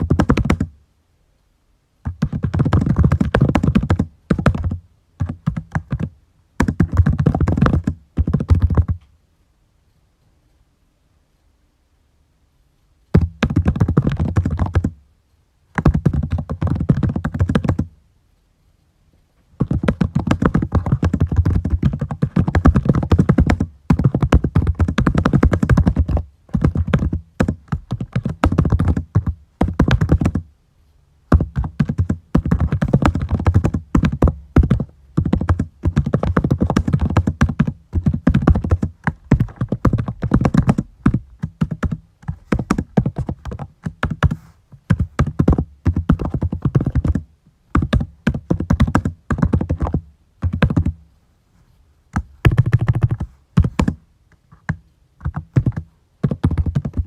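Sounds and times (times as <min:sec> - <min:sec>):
fast typing on keyboard: 0:00.0 - 0:00.7, 0:02.0 - 0:09.0, 0:13.2 - 0:15.0, 0:15.8 - 0:17.9, 0:19.6 - 0:30.5, 0:31.3 - 0:51.0, 0:52.4 - 0:54.0, 0:54.6 - 0:57.0.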